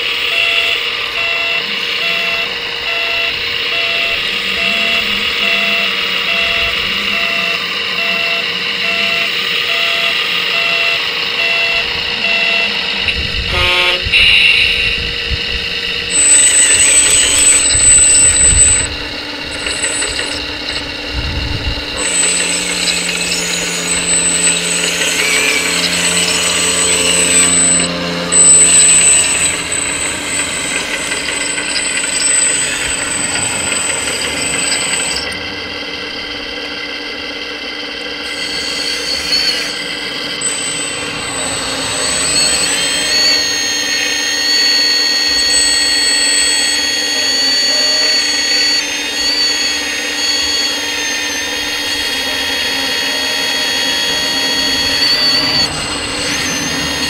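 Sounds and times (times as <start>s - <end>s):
hydraulic pump high whine: 0.0s - 57.0s.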